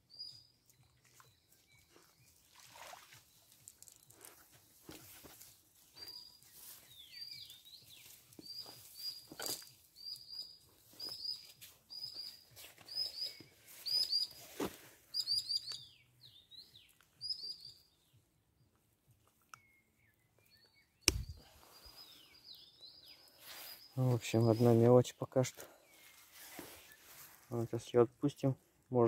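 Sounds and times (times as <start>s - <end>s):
songbird chirping: 0.0s - 29.0s.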